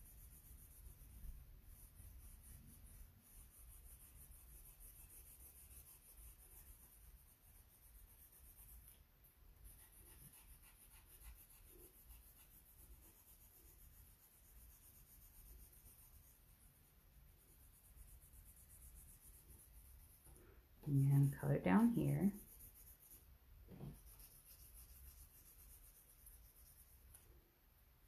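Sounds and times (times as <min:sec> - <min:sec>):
pencil scratching on paper: 0:00.0 - 0:27.3.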